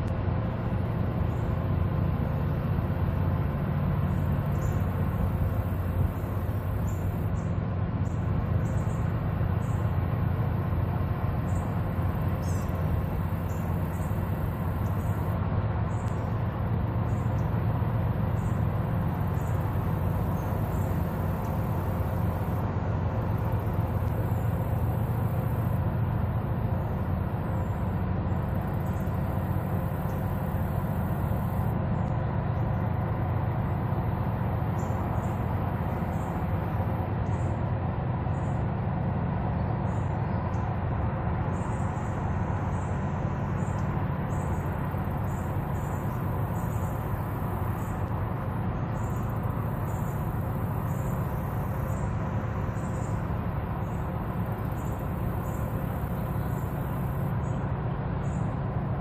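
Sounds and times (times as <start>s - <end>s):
boat diesel engines rumbling: 0.0s - 59.0s.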